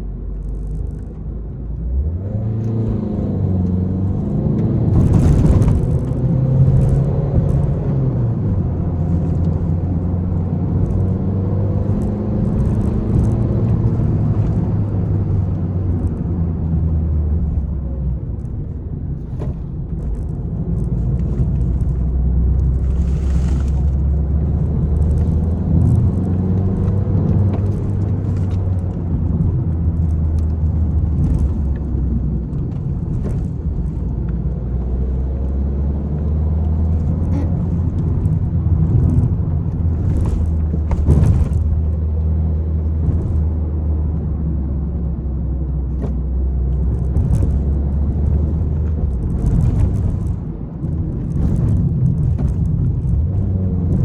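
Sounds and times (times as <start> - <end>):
knocks and clicks from road: 0.0 - 54.0
road rumble: 0.0 - 54.0
car engine revving: 1.8 - 54.0.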